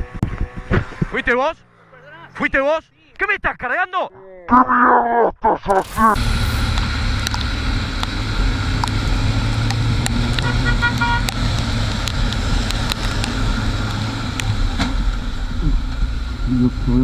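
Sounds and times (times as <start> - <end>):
vehicle engine running: 0.0 - 3.7, 5.8 - 17.0.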